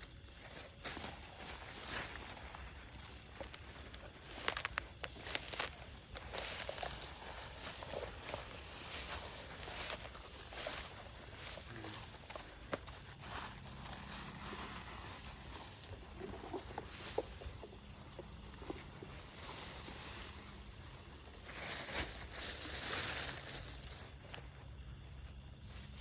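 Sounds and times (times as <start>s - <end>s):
footsteps through undergrowth: 0.0s - 26.0s.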